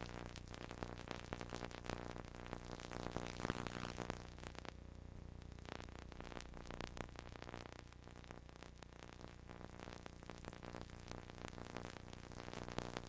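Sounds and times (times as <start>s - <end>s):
faint electrical hum: 0.0s - 13.0s
tape crackle and hiss: 0.0s - 13.0s.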